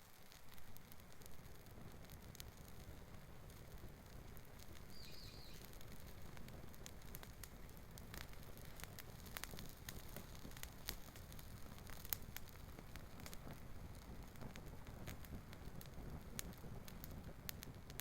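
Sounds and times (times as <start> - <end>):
campfire crackling: 0.0 - 18.0
sharp pops of fire: 0.0 - 18.0.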